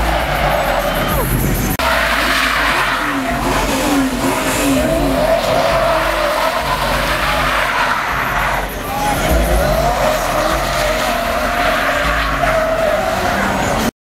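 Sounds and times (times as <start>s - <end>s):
car engine running hard: 0.0s - 13.9s
tyres squealing: 0.0s - 13.9s.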